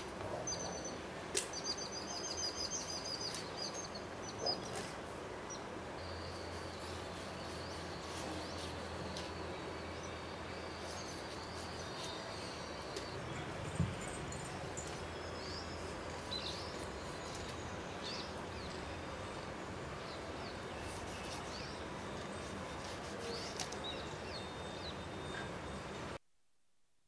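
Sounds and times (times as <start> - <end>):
small birds chirping: 0.0 - 26.2
outdoor background hiss: 0.0 - 26.9.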